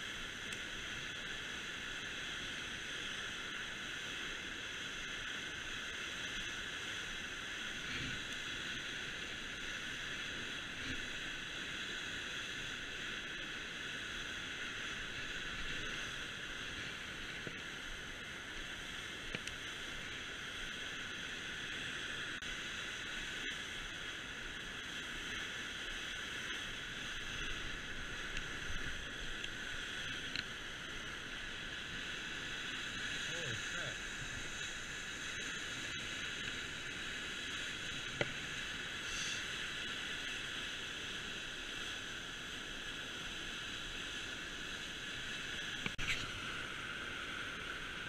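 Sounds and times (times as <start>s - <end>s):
water rushing over a spillway: 0.0s - 48.0s.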